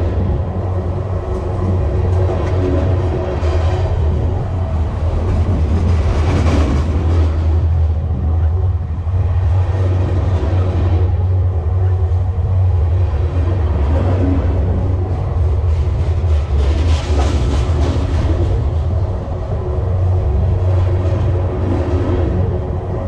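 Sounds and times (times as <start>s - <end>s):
freight train wheels rumbling on rails: 0.0s - 23.0s.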